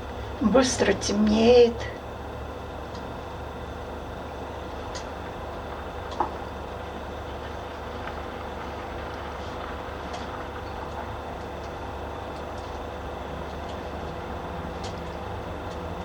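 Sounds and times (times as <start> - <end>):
faint steady hum: 0.0 - 16.0
low rumble of distant traffic: 0.0 - 16.0.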